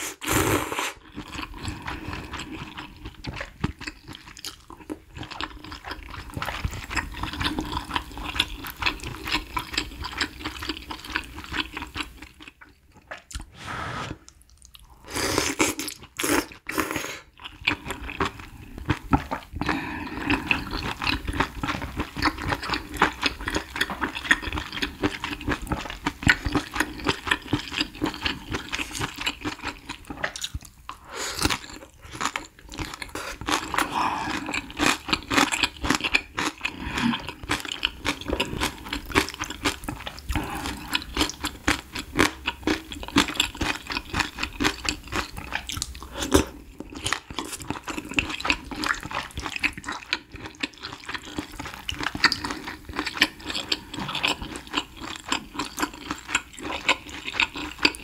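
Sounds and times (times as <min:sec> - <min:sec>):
chewing and crunching: 0:01.0 - 0:13.5, 0:14.2 - 0:58.0.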